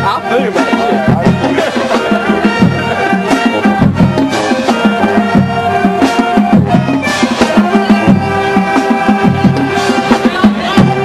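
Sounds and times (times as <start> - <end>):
brass holding notes: 0.0 - 11.0
drumline hits: 0.0 - 11.0.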